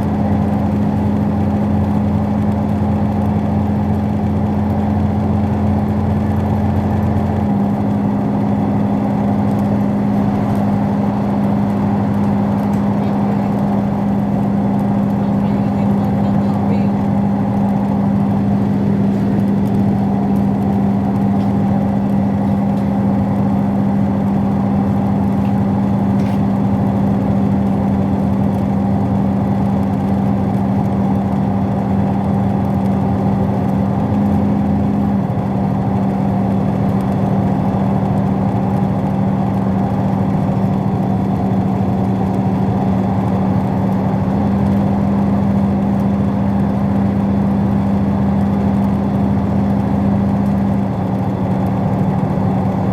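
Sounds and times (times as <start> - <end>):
diesel train engine drone: 0.0 - 52.9
train running noise: 0.0 - 52.9.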